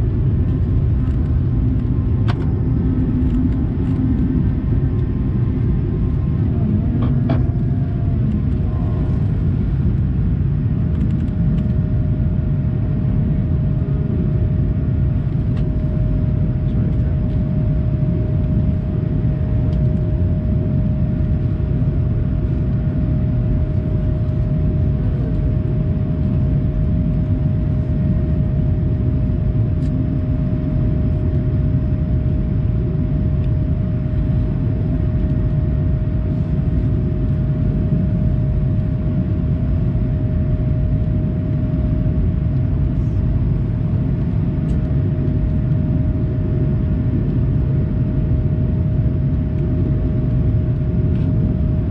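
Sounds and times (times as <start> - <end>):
airplane cabin rumble: 0.0 - 51.9
steady hum tone: 0.0 - 51.9.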